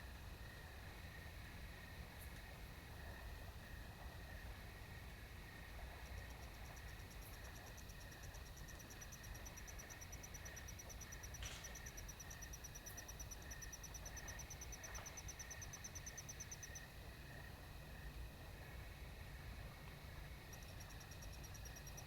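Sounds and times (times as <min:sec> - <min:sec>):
faint lower insect pulsing: 0:00.0 - 0:22.0
insect chirping in rapid pulses: 0:00.4 - 0:22.0.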